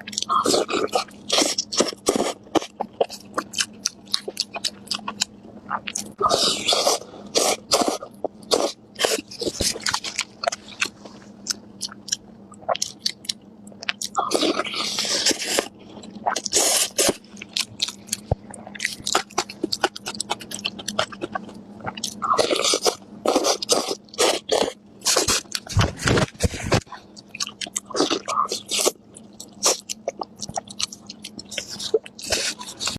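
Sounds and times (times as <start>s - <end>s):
chewing and biting food: 0.0s - 32.9s.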